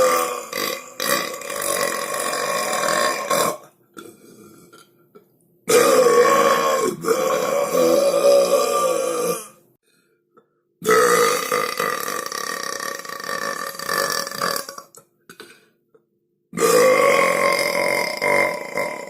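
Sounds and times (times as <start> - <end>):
person belching loudly: 0.0 - 4.9, 5.7 - 9.6, 10.8 - 15.0, 16.5 - 19.0.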